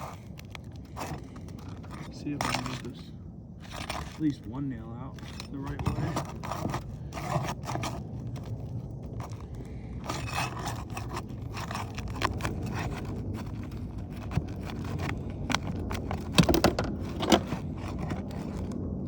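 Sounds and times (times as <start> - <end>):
flat bar scraping under shingle: 0.0 - 19.0.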